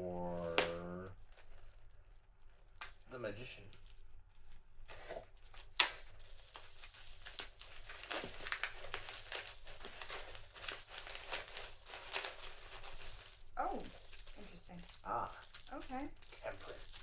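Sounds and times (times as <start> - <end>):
packaging crinkling: 0.4 - 17.0.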